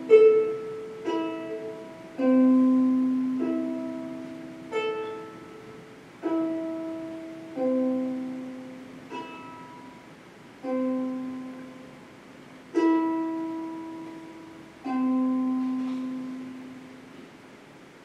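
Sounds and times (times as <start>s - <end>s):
plucked string notes: 0.0s - 17.4s.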